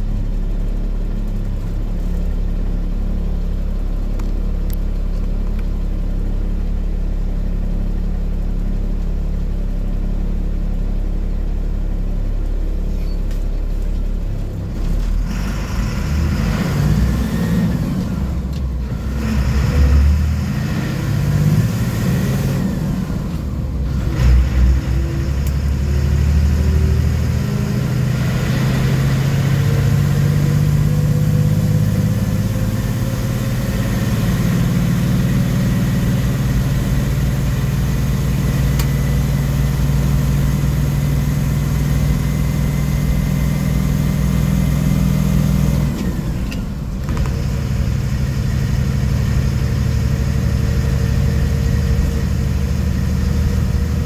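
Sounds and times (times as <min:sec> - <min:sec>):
diesel bus engine pulling: 0:00.0 - 0:54.0.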